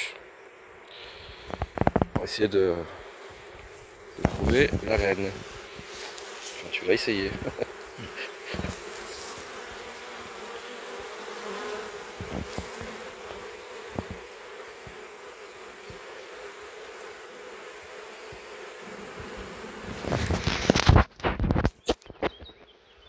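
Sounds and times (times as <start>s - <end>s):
bees buzzing: 0.0s - 21.1s.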